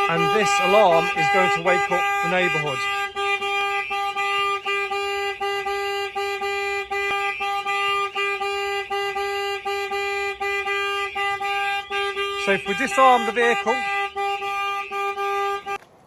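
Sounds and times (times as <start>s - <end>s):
warbling siren: 0.0s - 15.7s
pulsing honking alarm tone: 0.0s - 15.8s.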